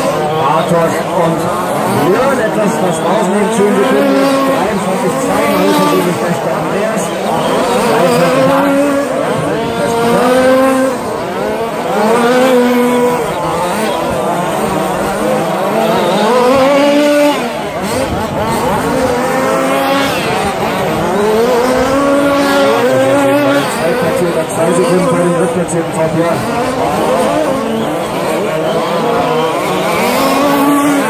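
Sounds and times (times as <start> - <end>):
rc truck motors whining: 0.0 - 31.0.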